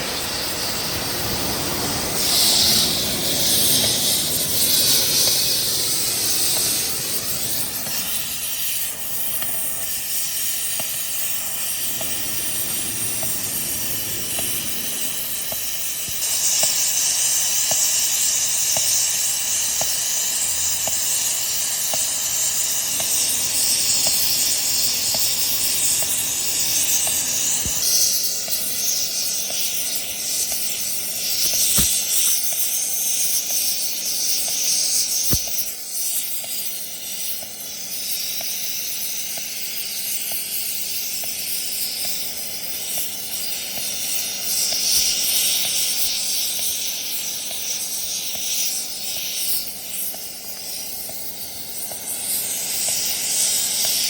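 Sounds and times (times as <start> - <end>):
steady high hiss: 0.0 - 54.0.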